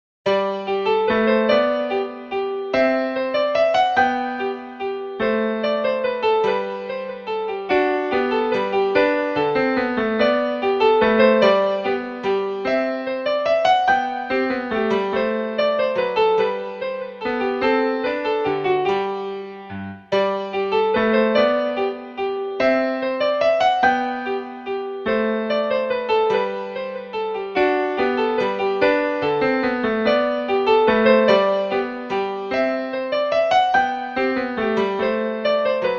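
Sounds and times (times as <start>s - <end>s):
light piano melody: 0.2s - 35.9s.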